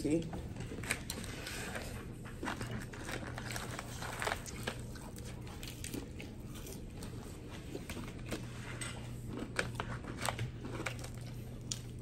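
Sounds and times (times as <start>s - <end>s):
steady low hum: 0.0s - 12.0s
chewing fried food: 0.3s - 12.0s.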